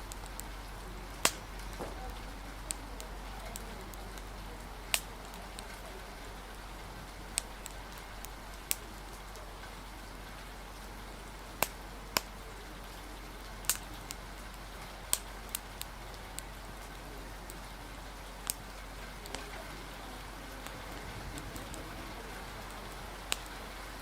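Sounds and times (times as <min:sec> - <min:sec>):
steady rain: 0:00.0 - 0:24.0
wood fire crackling and popping: 0:00.0 - 0:24.0.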